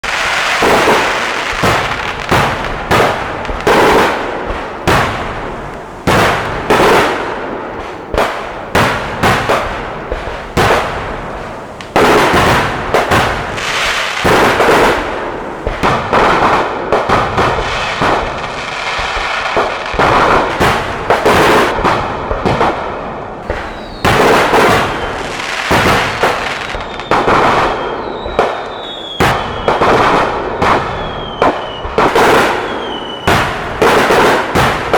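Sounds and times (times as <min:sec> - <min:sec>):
fireworks bangs: 0:00.0 - 0:34.9
fireworks falling whistles: 0:00.0 - 0:34.9.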